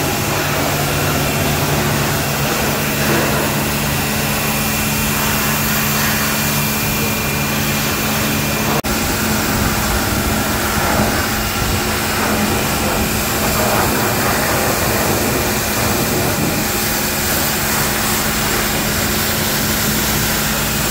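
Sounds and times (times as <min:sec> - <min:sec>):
pressure washer motor hum: 0:00.0 - 0:20.9
water spray hissing: 0:00.0 - 0:20.9.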